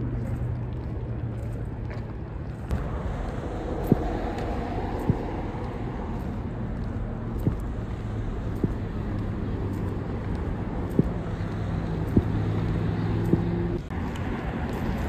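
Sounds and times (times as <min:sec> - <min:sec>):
engine hum: 0:00.0 - 0:15.0
low rumble of traffic: 0:00.0 - 0:15.0.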